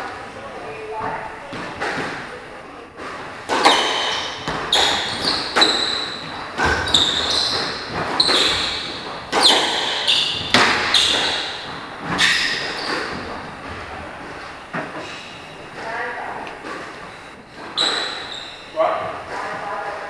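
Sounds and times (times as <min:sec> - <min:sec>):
squash ball hitting rackets and walls: 0:01.0 - 0:20.0
shoes squeaking on wooden floor: 0:02.9 - 0:19.8.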